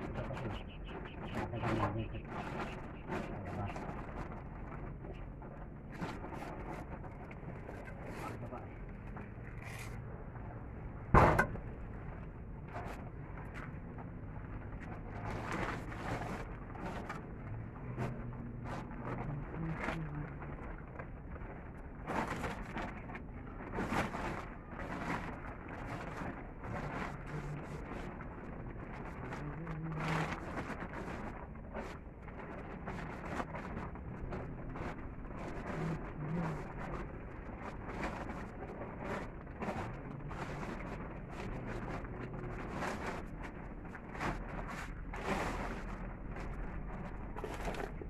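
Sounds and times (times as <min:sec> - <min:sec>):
plastic tarpaulin rustling: 0:00.0 - 0:48.0.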